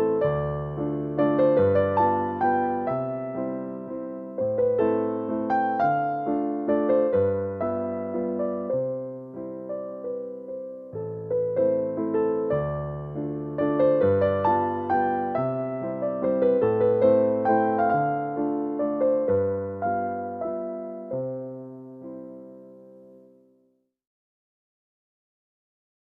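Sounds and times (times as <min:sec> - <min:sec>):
gentle piano music: 0:00.0 - 0:23.8.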